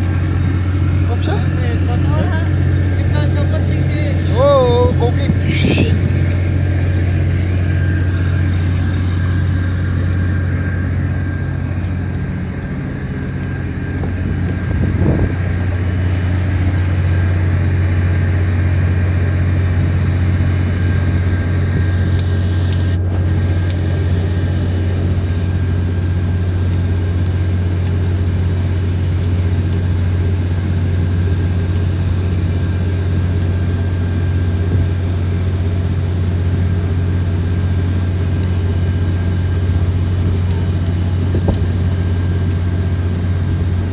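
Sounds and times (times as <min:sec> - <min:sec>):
engine droning: 0:00.0 - 0:43.9.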